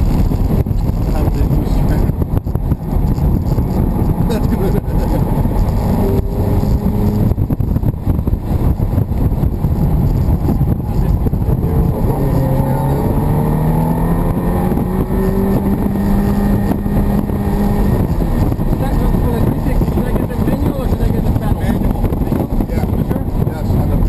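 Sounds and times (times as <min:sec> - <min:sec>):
car engine accelerating: 0:00.0 - 0:24.0
road and wind rumble: 0:00.0 - 0:24.0.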